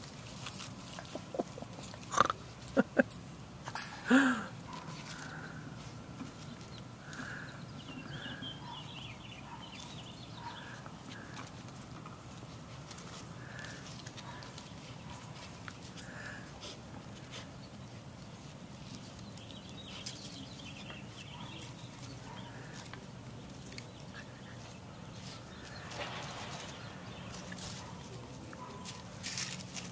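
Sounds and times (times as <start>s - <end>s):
leaf rustling: 0.0s - 7.5s, 9.8s - 29.9s
puppies scuffling on paving: 0.0s - 29.9s.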